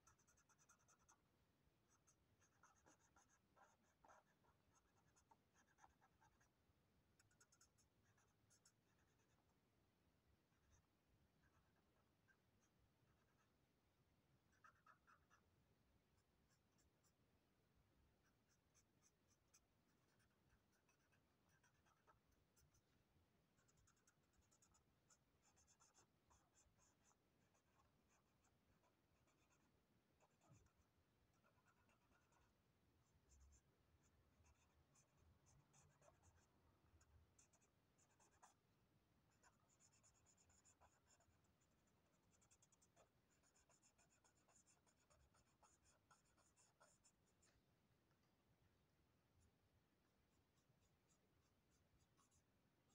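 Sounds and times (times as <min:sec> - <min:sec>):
marker pen scratching paper: 0:00.0 - 0:01.3, 0:01.9 - 0:06.6, 0:07.2 - 0:09.5, 0:10.5 - 0:13.6, 0:14.5 - 0:15.5, 0:18.2 - 0:48.2, 0:50.1 - 0:52.9.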